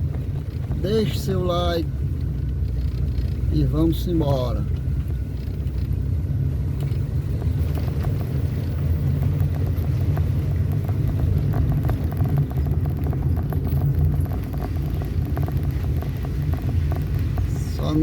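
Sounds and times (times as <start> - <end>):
small ticks and rattles: 0.0 - 18.0
vehicle engine and road rumble: 0.0 - 18.0.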